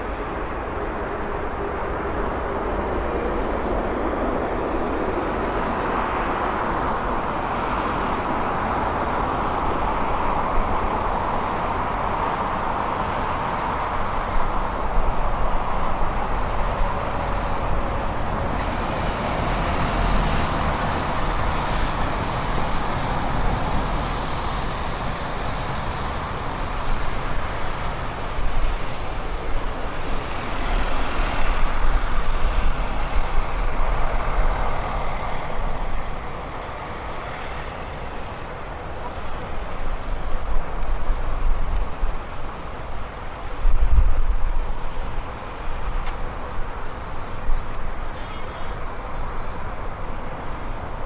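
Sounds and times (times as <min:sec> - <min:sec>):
vehicles driving past: 0:00.0 - 0:51.0.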